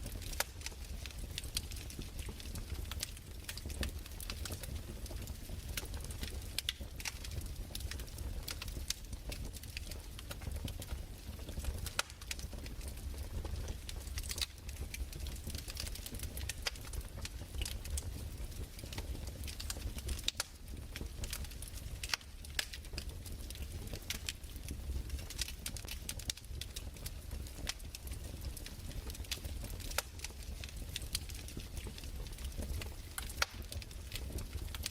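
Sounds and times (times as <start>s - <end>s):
fire pops and snaps: 0.0s - 34.9s
fireplace crackling: 0.0s - 34.9s.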